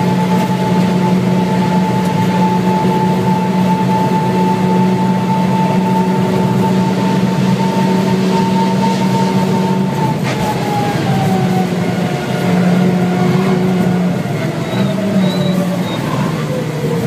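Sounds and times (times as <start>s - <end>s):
car engine: 0.0s - 17.0s.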